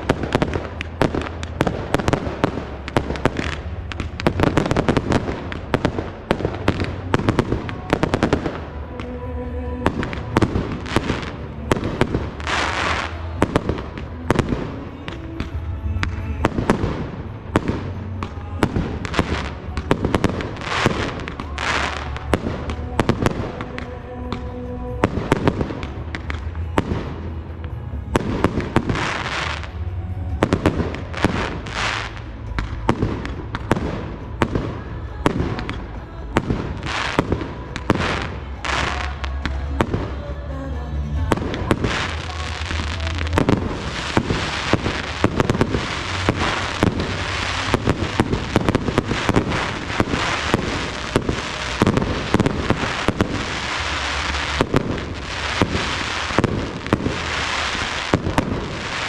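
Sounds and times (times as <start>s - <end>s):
firework crackling: 0.0s - 59.0s
music playing: 0.0s - 59.0s.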